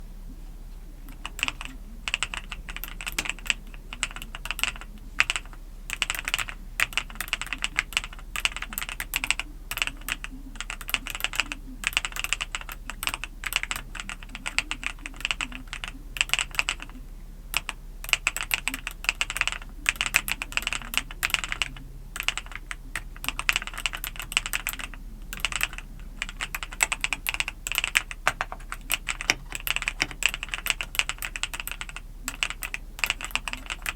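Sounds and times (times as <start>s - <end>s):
mechanical keyboard typing: 1.1s - 33.9s.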